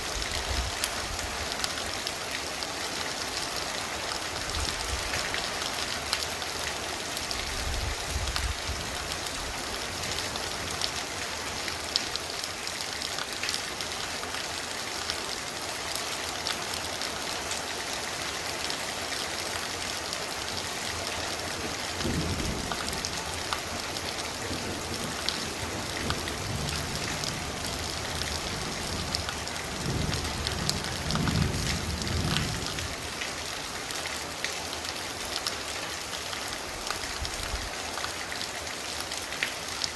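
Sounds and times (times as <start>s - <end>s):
heavy torrential rain: 0.0s - 39.9s.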